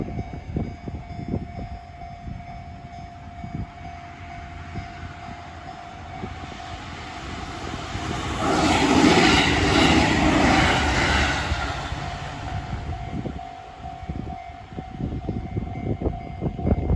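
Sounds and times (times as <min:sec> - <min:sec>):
electric train passing: 0:00.0 - 0:16.9
wind buffeting microphone: 0:00.0 - 0:16.9.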